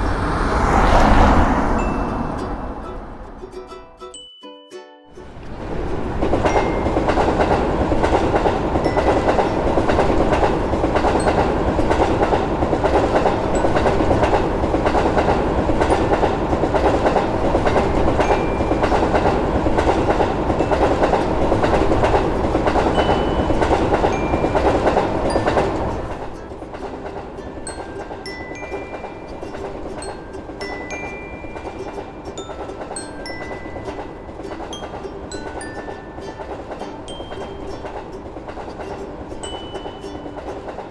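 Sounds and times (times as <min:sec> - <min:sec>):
wheels clattering over rail joints: 0:00.0 - 0:03.7, 0:05.2 - 0:40.9
train rumbling past: 0:00.0 - 0:04.2, 0:05.2 - 0:40.9.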